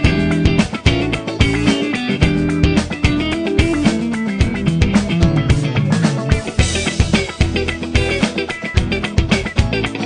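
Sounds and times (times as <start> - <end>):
instrumental music with drum beat: 0.0 - 10.0.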